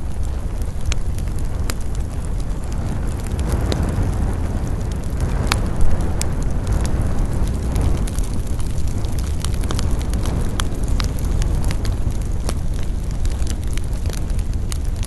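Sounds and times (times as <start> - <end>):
campfire crackles and snaps: 0.0 - 15.0
low fire rumble: 0.0 - 15.0.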